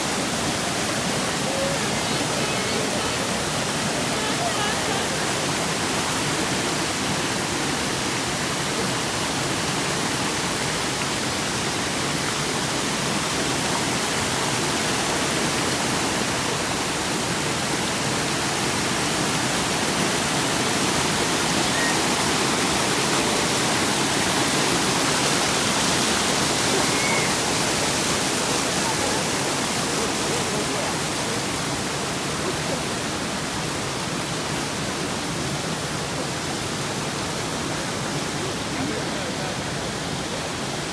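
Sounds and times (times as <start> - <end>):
waterfall pouring into pool: 0.0 - 40.9.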